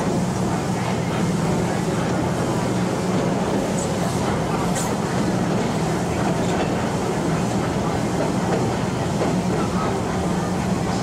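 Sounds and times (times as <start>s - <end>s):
train coach rolling along track: 0.0s - 11.0s.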